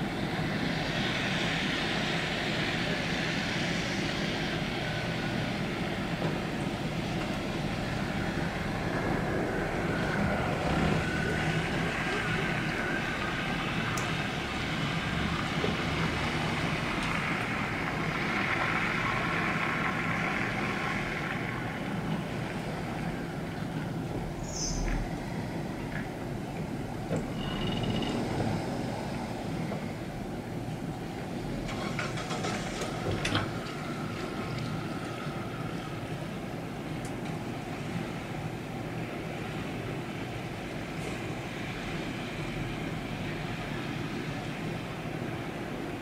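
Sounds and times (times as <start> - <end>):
distant road traffic hum: 0.0 - 46.0.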